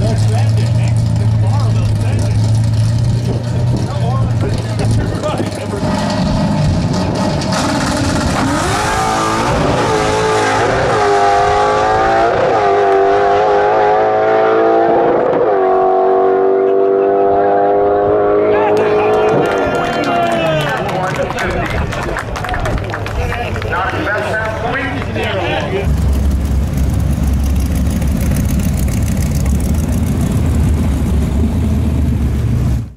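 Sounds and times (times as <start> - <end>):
drag car engine accelerating: 0.0 - 19.9, 23.1 - 32.9.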